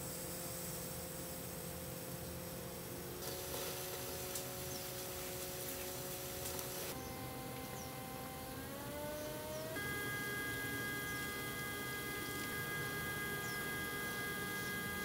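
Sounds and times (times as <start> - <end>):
pottery wheel motor whining: 1.4 - 15.0.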